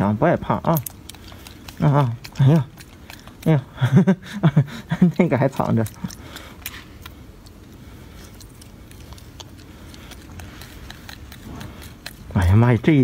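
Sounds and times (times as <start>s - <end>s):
low background rumble: 0.0s - 13.0s
monkey eating with faint clicks: 0.5s - 13.0s.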